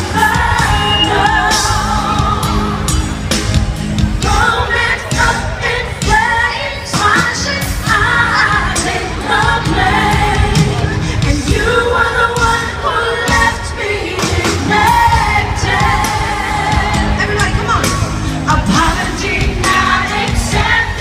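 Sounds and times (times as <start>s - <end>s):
woman singing: 0.0s - 3.0s, 4.2s - 21.0s
pop music over sound system: 0.0s - 21.0s.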